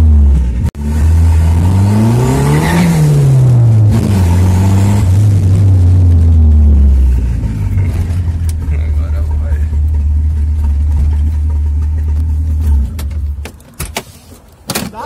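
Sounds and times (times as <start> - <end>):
car engine revving: 0.0 - 13.5.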